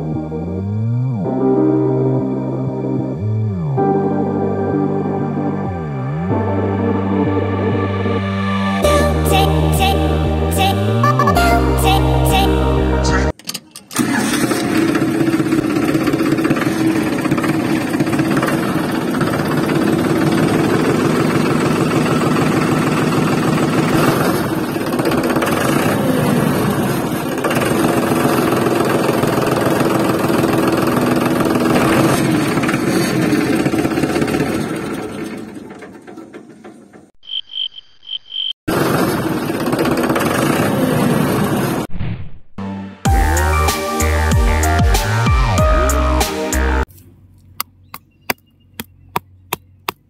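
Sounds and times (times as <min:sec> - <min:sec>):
engine running: 0:00.0 - 0:37.2, 0:38.7 - 0:41.9.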